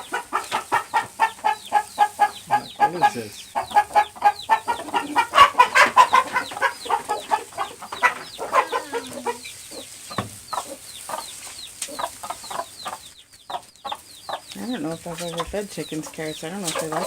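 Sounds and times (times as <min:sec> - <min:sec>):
chicks peeping: 0:00.0 - 0:17.0
hens clucking: 0:00.0 - 0:17.0.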